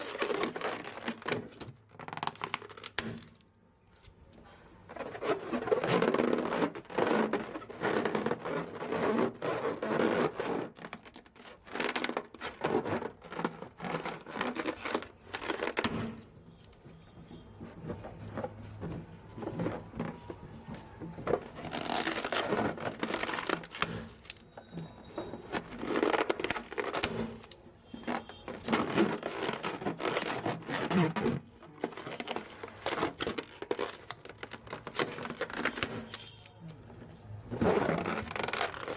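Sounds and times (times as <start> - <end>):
balloons crinkling and squeezed: 0.0 - 38.9.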